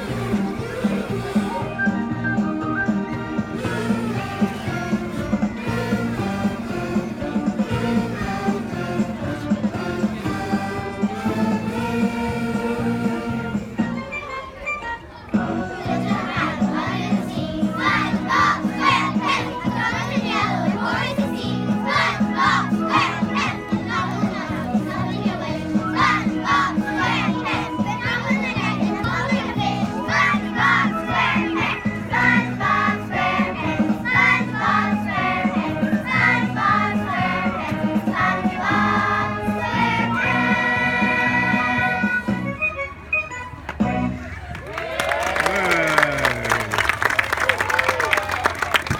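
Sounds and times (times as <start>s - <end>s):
children's choir singing: 0.0s - 13.8s, 15.2s - 42.4s
instrumental accompaniment: 0.0s - 44.5s
crowd chatter: 0.0s - 48.9s.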